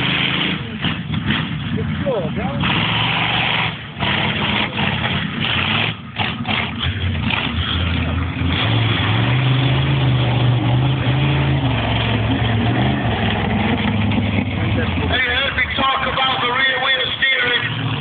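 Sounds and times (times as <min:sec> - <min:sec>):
large vehicle engine revving: 0:00.0 - 0:18.0.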